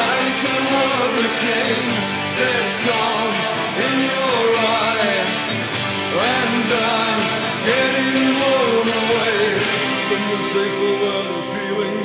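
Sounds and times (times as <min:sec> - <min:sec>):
rock band music: 0:00.0 - 0:12.0.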